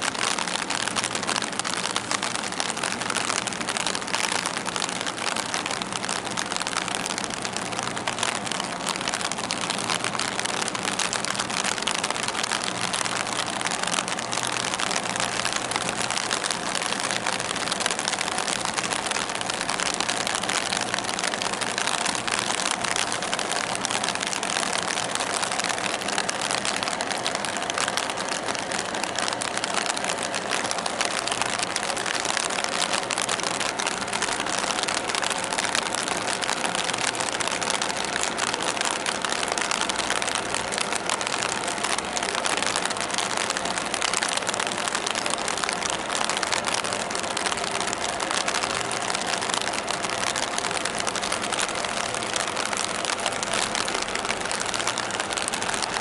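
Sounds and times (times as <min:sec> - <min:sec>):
constant hiss: 0:00.0 - 0:56.0.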